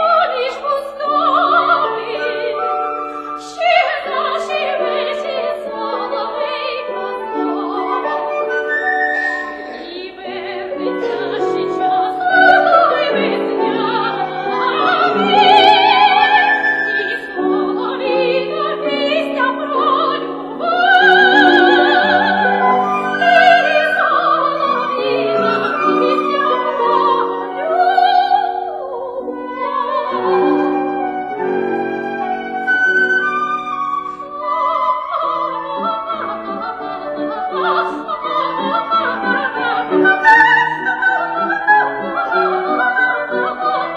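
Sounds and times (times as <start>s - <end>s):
piano accompaniment: 0.0s - 43.9s
soprano singing: 0.0s - 43.9s.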